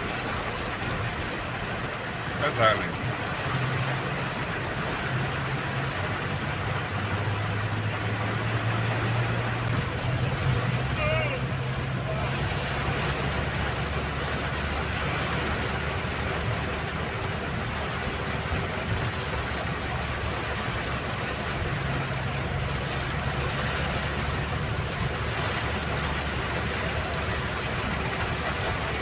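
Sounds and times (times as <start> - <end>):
low engine hum: 0.0 - 29.0
rain and tyres on wet road: 0.0 - 29.0.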